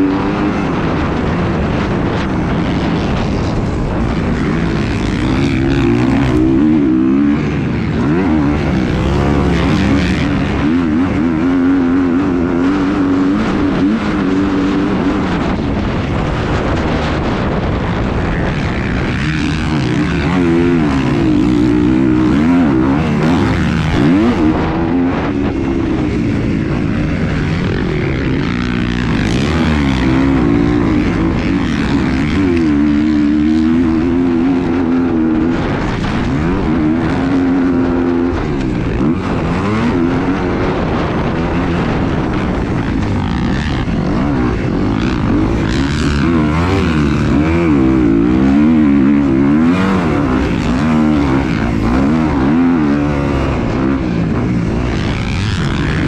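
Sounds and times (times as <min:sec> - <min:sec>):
engine running: 0:00.0 - 0:56.0
wind rumble on microphone: 0:00.0 - 0:56.0.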